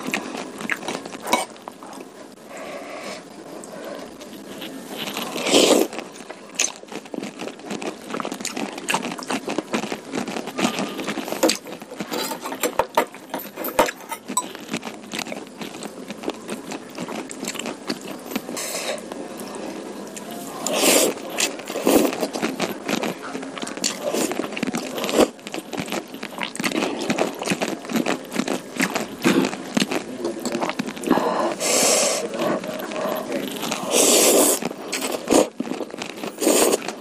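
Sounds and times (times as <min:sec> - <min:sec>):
wet chewing and slurping: 0:00.0 - 0:37.0.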